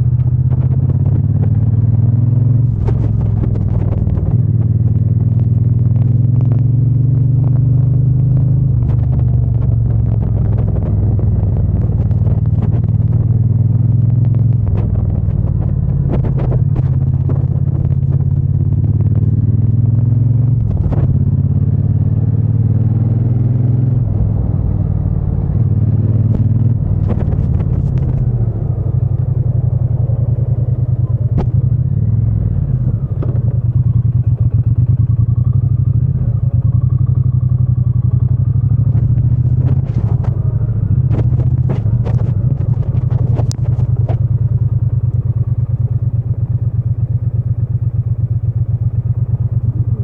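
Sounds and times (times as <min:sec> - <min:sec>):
motorcycle engine and exhaust running: 0:00.0 - 0:50.0.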